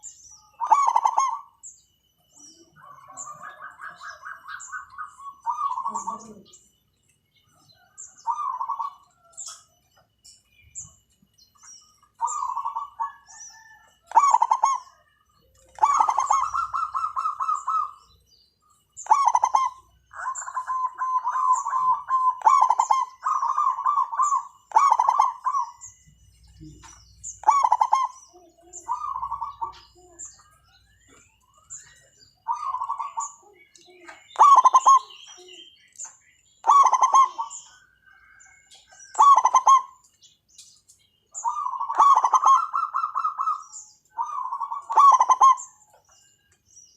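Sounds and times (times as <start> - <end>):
doves cooing: 0.0 - 1.6, 2.5 - 6.8, 7.7 - 9.7, 11.8 - 35.6, 36.6 - 40.0, 41.3 - 46.1.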